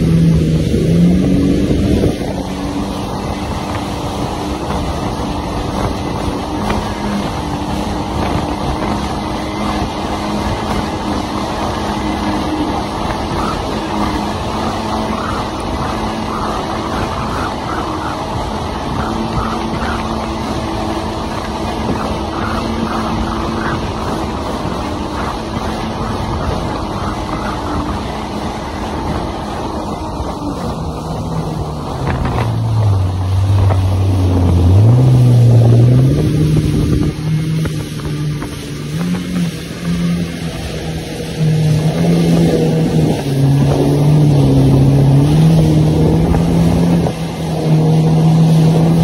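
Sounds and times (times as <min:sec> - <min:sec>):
jet ski engine droning: 0:00.0 - 0:49.0
wind and water rushing: 0:00.0 - 0:49.0.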